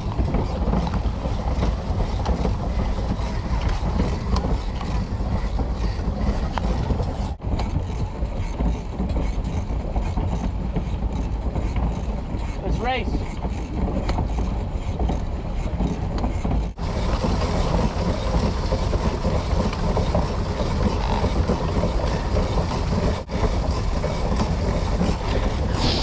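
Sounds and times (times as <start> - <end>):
paddle wheel churning water: 0.0 - 26.0.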